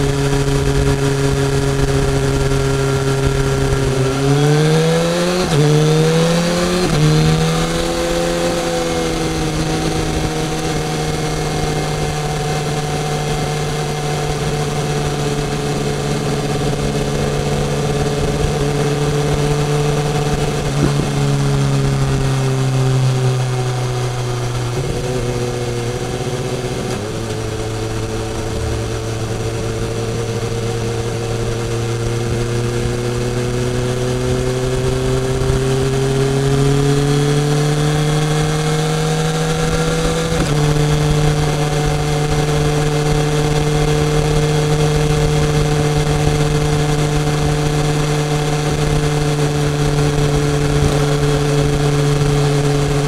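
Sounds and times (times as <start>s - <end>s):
constant rushing noise: 0.0s - 53.0s
motorcycle engine accelerating: 0.0s - 53.0s.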